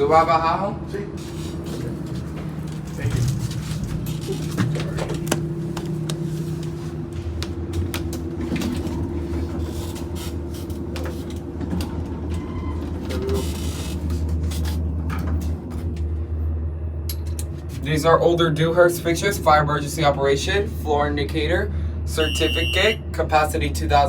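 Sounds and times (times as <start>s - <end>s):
elevator hum and rumble: 0.0s - 24.0s.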